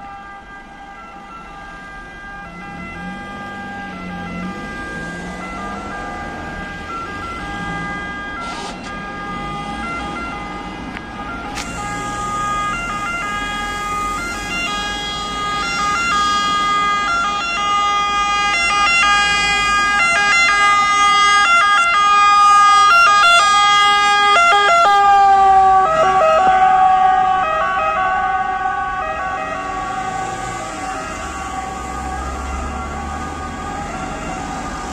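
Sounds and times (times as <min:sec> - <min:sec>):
ambulance two-tone siren: 0:00.0 - 0:34.9
road traffic: 0:00.0 - 0:34.9.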